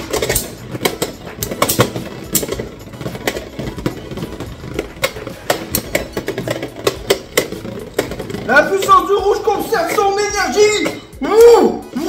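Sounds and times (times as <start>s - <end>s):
spinning tops clacking: 0.0s - 12.0s
spinning tops whirring: 0.0s - 12.0s.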